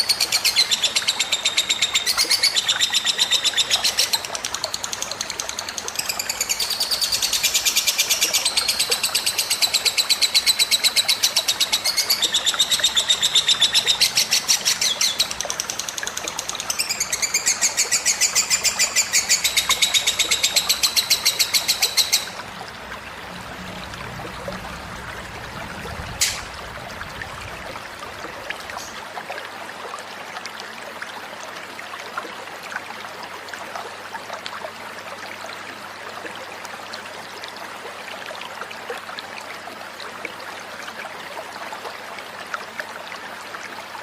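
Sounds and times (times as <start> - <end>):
water trickling: 0.0 - 44.0.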